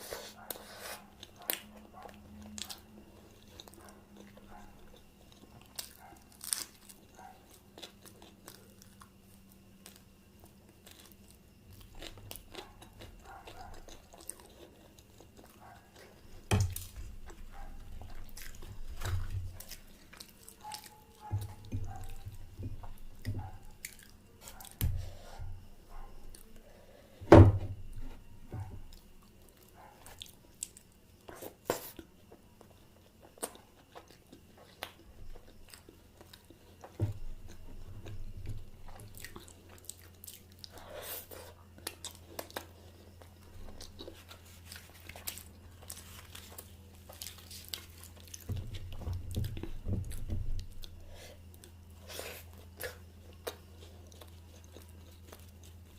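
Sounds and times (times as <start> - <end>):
person chewing food: 0.0 - 27.2, 27.8 - 55.9.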